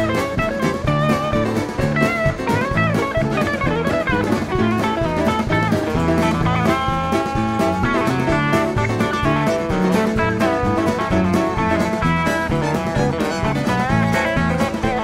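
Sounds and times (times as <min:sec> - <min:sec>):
bass and drum kit: 0:00.0 - 0:15.0
lead guitar solo: 0:00.0 - 0:15.0.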